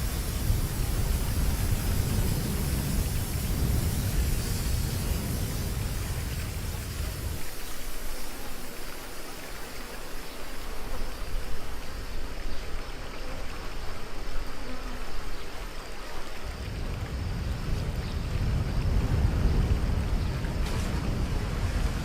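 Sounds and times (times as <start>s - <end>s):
rushing water with splashing: 0.0s - 22.0s.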